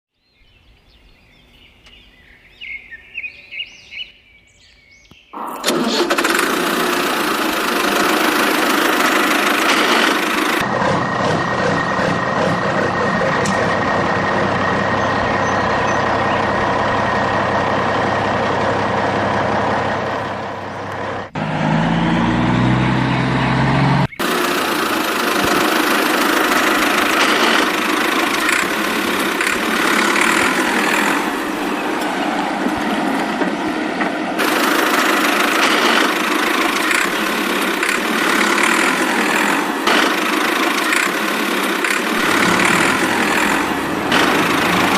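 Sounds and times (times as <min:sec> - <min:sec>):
heavy machinery diesel engine: 0:05.4 - 0:44.9.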